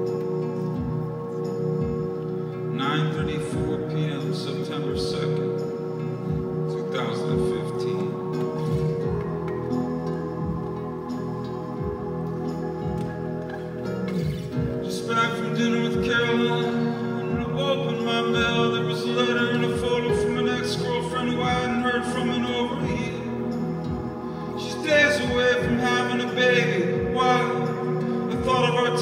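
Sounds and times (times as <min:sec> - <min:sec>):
acoustic guitar playing: 0:00.0 - 0:29.0.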